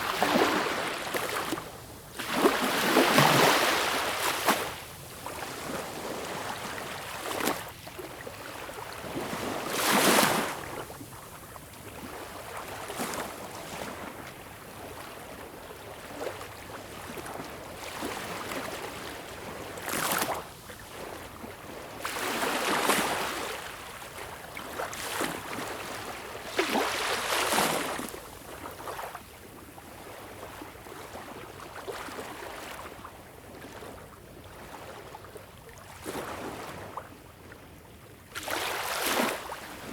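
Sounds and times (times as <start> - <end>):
waves lapping at beach: 0.0 - 37.6, 38.2 - 39.9.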